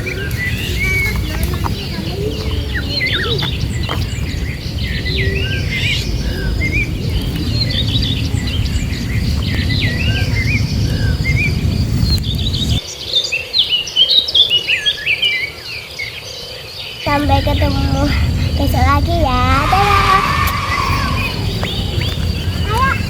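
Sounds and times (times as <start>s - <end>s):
low rumble: 0.0s - 12.8s, 17.1s - 23.0s
birds chirping: 0.0s - 23.0s.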